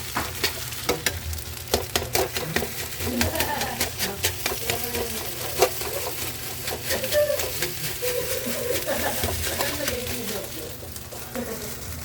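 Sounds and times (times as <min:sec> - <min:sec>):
rice sizzling in a pan: 0:00.0 - 0:12.0
spatula scraping a pan: 0:00.0 - 0:12.0.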